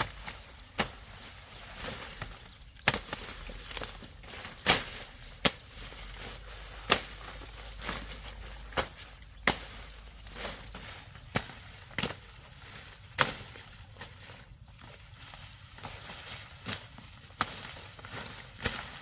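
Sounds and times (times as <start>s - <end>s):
corn ears snapping off stalks: 0.0s - 15.0s, 15.7s - 19.0s.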